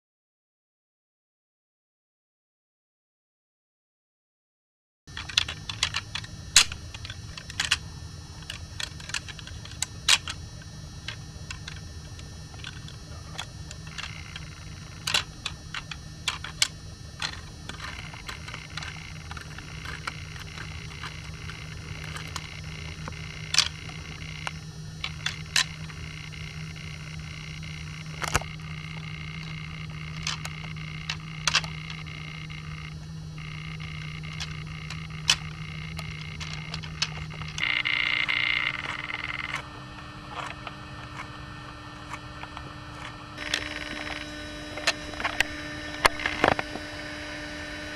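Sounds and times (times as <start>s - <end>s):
steady low hum: 5.1s - 47.9s.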